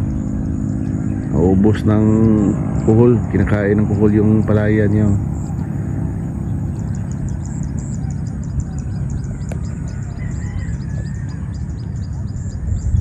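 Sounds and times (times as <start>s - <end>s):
small birds chirping: 0.0s - 13.0s
wind rumble on microphone: 0.0s - 13.0s.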